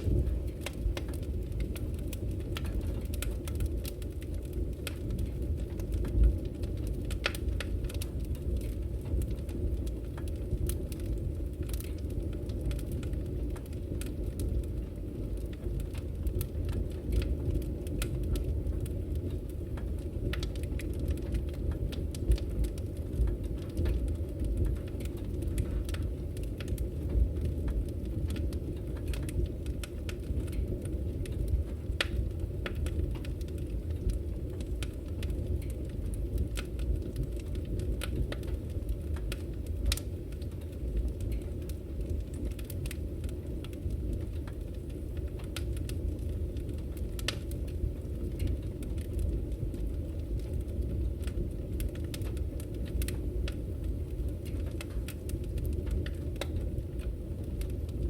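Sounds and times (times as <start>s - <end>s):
firewood crackling and popping: 0.0s - 58.0s
low rumble of flames: 0.0s - 58.0s.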